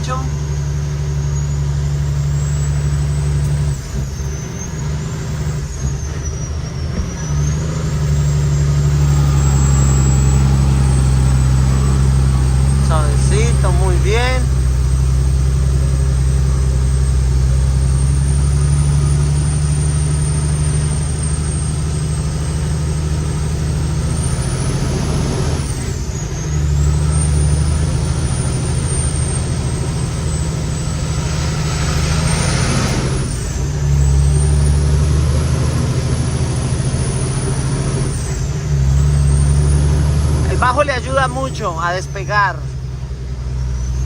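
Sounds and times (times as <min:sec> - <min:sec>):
truck diesel engine pulling uphill: 0:00.0 - 0:44.0.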